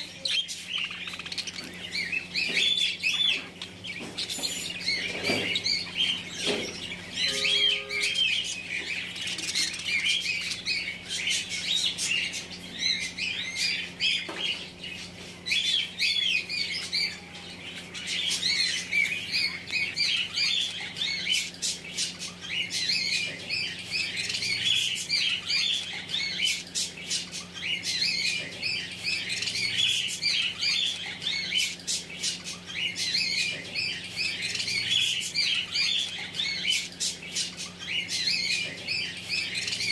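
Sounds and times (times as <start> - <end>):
faint steady hum: 0.0 - 39.9
budgerigars chattering: 0.1 - 39.9.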